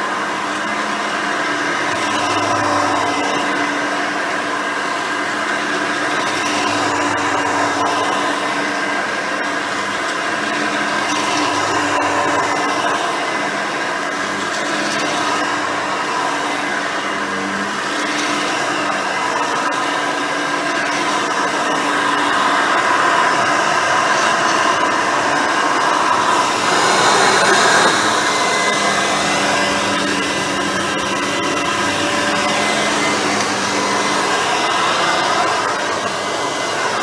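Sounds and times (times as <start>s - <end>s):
upright vacuum cleaner running: 0.0s - 37.0s.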